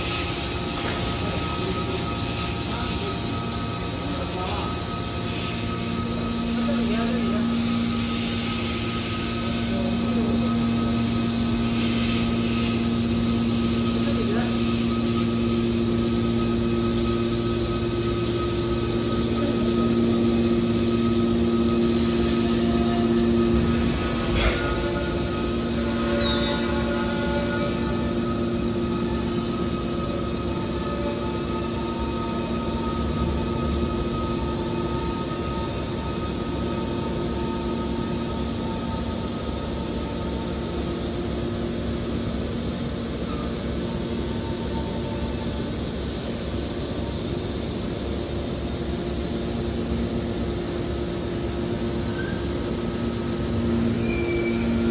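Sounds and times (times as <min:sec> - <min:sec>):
industrial machinery humming: 0:00.0 - 0:54.9
noisy background: 0:00.0 - 0:54.9.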